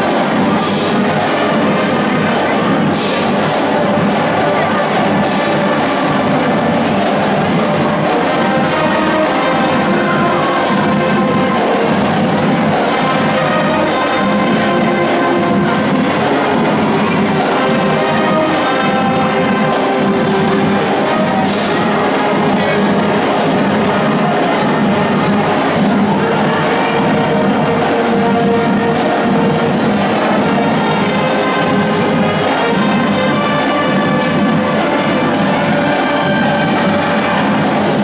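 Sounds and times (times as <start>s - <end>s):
brass instruments playing: 0.0s - 38.0s
snare and bass drums: 0.0s - 38.0s.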